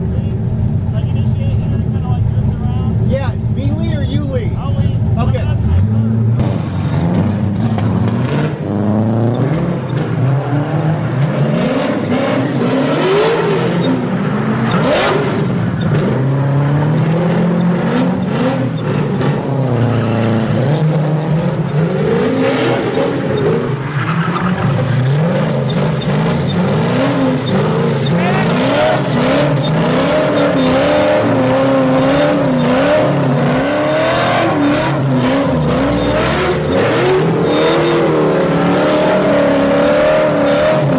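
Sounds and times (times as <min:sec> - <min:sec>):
car engine at high revs: 0:00.0 - 0:40.9
tyres squealing and skidding: 0:07.8 - 0:40.9.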